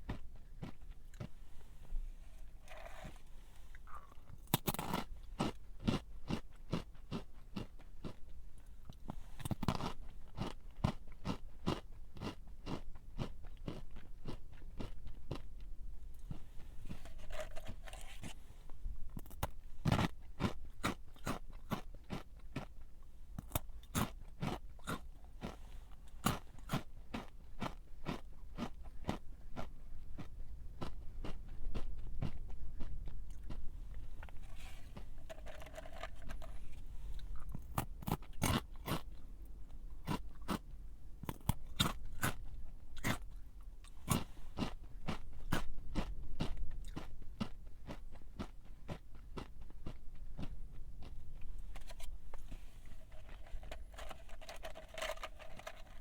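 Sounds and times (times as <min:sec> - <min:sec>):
person chewing crunchy snack: 0:00.0 - 0:39.3, 0:40.0 - 0:56.0.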